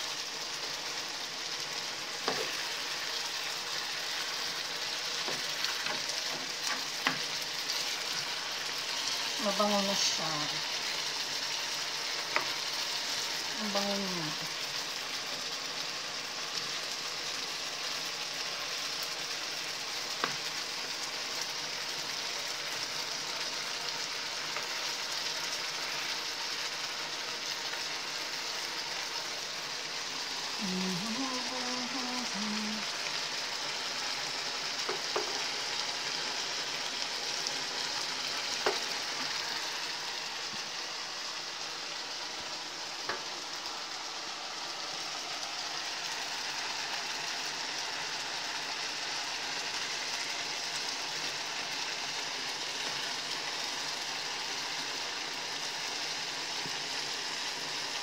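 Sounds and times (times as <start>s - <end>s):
chicken wings sizzling in pan: 0.0s - 58.0s.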